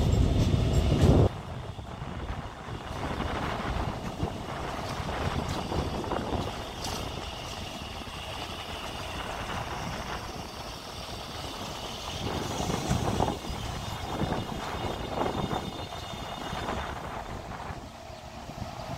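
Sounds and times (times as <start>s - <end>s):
metro train rumbling: 0.0s - 18.9s
wind gusting on microphone: 0.0s - 18.9s.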